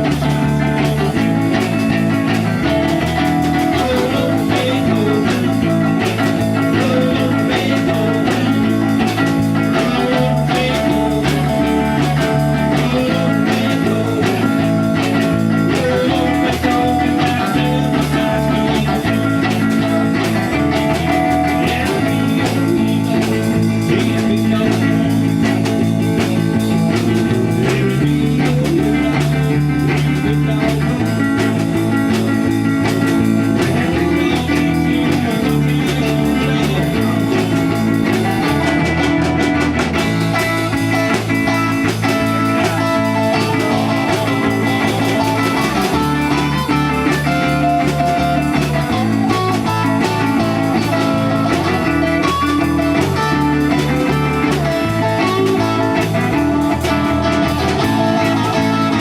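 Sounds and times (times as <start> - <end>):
rock band instrumental: 0.0 - 59.0.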